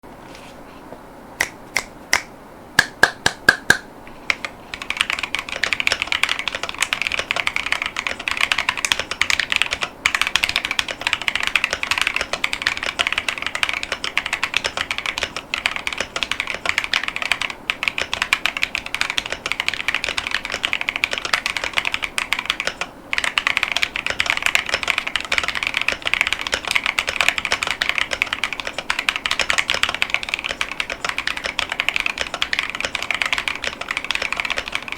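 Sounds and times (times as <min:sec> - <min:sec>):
mechanical keyboard typing: 0:02.8 - 0:34.9.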